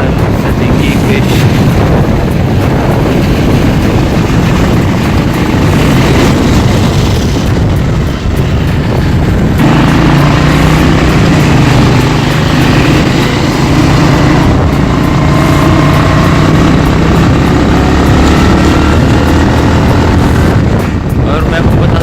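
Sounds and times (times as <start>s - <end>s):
road noise: 0.0s - 22.0s
vehicle engine running: 0.0s - 22.0s.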